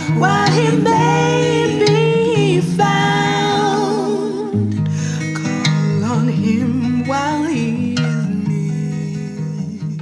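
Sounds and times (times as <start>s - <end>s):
worship song music: 0.0s - 9.8s.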